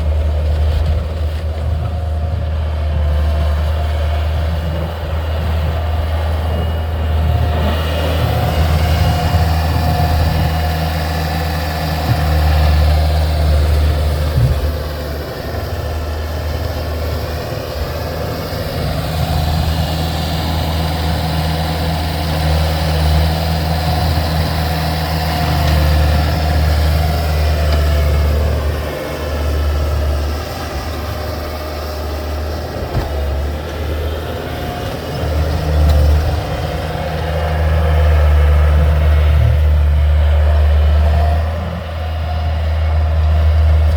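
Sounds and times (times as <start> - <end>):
skid steer engine running: 0.0 - 43.9.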